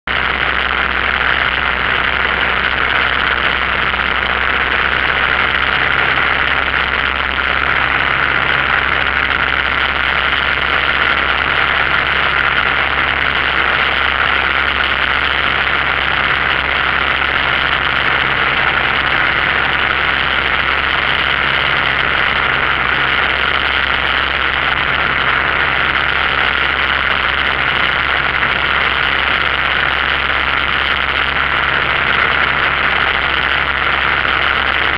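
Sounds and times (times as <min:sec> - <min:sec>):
light aircraft engine and propeller: 0:00.1 - 0:34.9.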